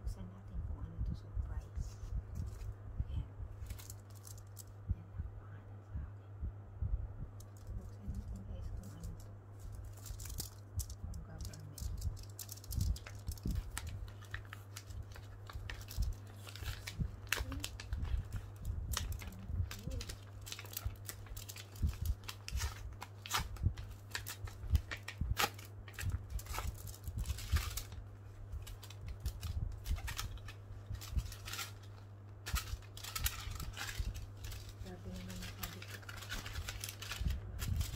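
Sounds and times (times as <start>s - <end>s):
steady low hum: 0.0s - 37.9s
paper rustling and crinkling: 1.8s - 2.8s, 3.6s - 4.7s, 7.4s - 37.9s.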